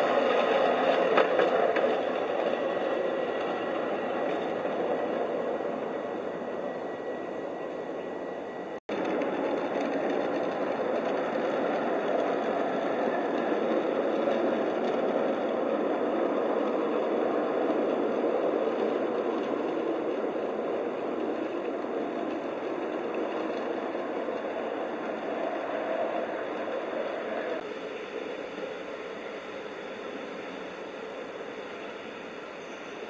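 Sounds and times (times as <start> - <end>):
miniature train wheels rumbling on rail: 0.0 - 8.0, 8.8 - 33.0.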